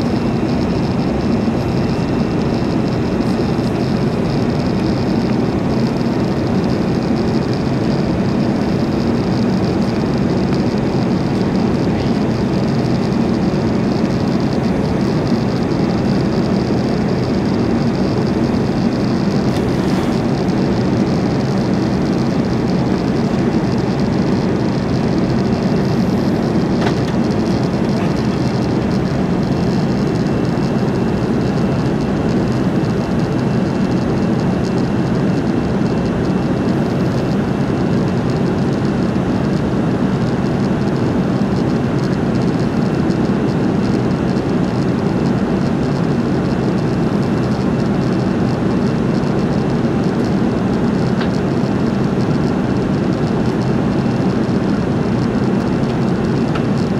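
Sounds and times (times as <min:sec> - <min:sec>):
jet engine cabin drone: 0:00.0 - 0:56.9.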